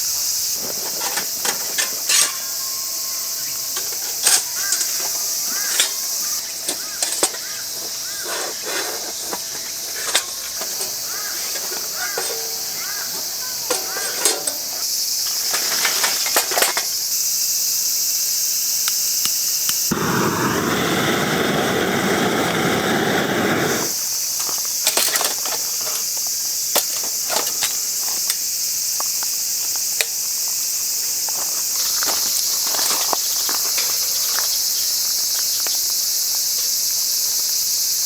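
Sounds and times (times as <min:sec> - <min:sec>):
crickets chirping: 0:00.0 - 0:38.0
loud even hiss: 0:00.0 - 0:38.0.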